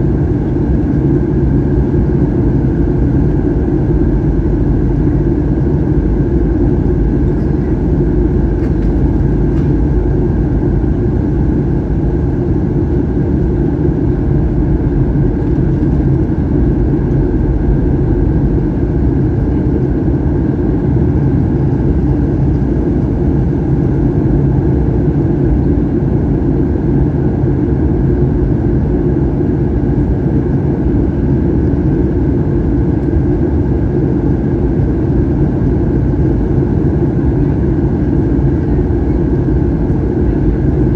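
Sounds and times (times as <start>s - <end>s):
jet engines droning: 0.0s - 40.9s
steady hums: 0.0s - 40.9s.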